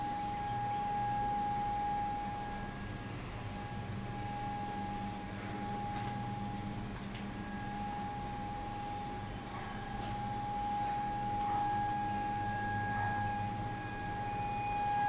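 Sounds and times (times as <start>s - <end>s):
tornado warning siren steady tone: 0.0s - 15.0s.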